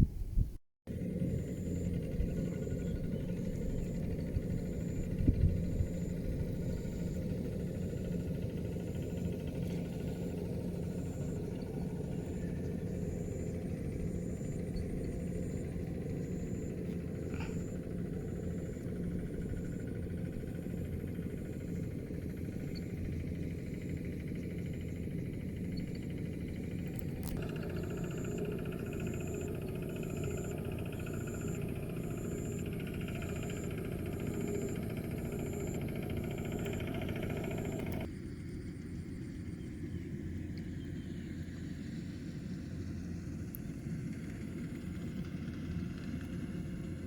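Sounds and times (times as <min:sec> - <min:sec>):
engine running: 0:00.9 - 0:47.0.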